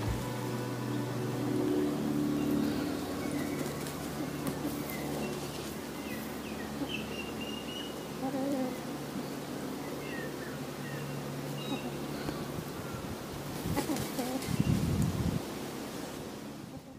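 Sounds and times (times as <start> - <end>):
birds chirping: 0.0 - 15.0
steady low hum: 0.0 - 16.9.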